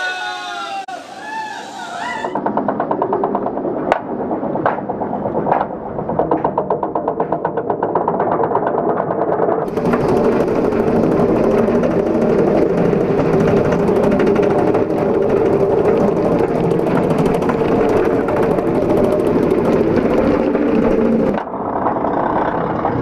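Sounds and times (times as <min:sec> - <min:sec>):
roller coaster lift chain drone: 0:00.0 - 0:23.0.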